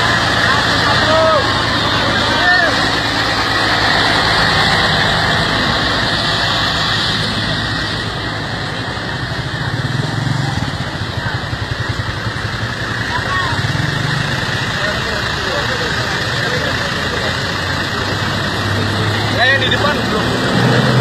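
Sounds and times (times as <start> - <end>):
bus diesel engine rumbling: 0.0 - 21.0.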